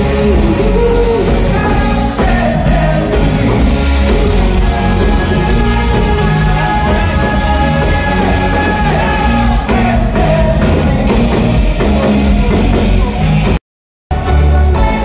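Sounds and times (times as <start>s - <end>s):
loud music with steady beat: 0.0s - 15.0s.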